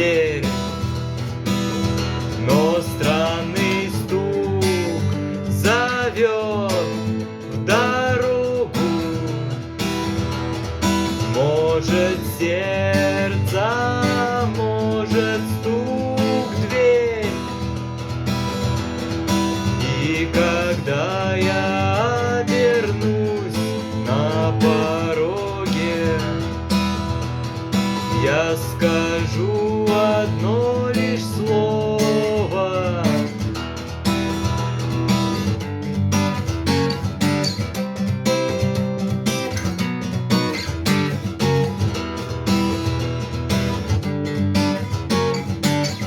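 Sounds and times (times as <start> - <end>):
acoustic guitar strumming chords: 0.0 - 46.0.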